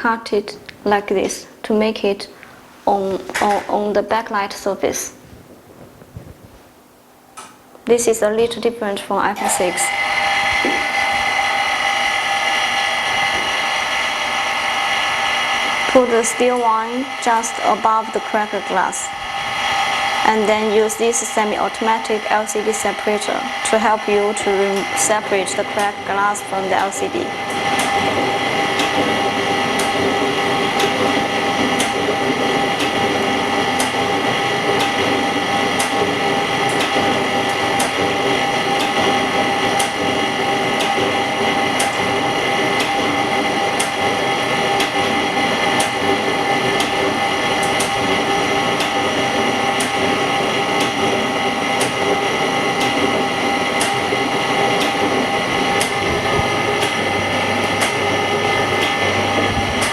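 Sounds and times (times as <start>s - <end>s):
machine whine: 0.0s - 59.9s.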